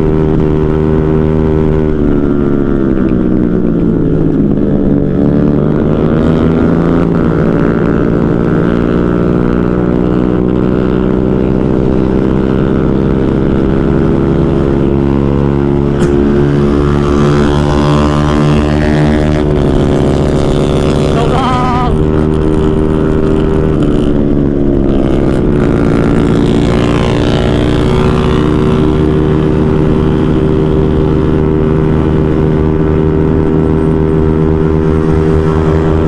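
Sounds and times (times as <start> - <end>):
motorcycle engine at high revs: 0.0 - 36.0.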